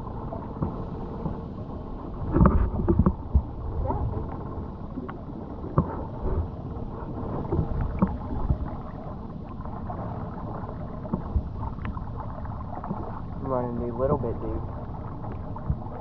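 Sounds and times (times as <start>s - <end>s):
boat motor rumble: 0.0s - 16.0s
water noise: 0.0s - 16.0s.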